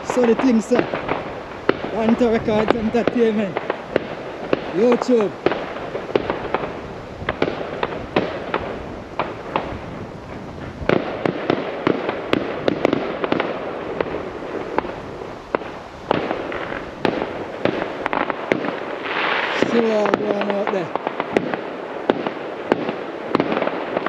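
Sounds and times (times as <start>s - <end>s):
distant firework bangs: 0.0s - 24.0s
firework cracks and pops: 0.0s - 24.0s.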